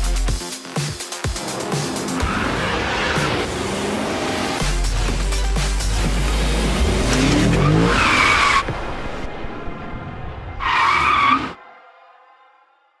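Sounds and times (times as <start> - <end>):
car engine revving: 1.4 - 12.8.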